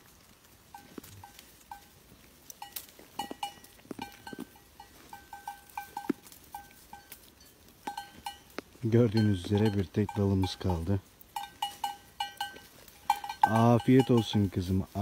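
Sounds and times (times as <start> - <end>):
goat chewing stems and berries: 0.0 - 15.0
short ringing clinks: 0.8 - 14.7.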